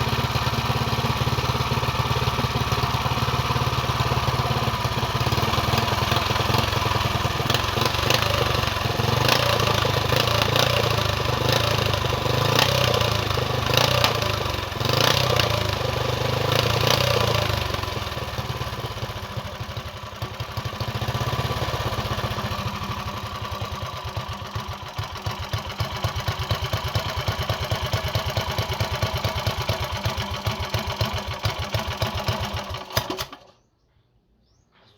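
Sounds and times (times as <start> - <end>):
engine revving and idling: 0.0 - 33.5.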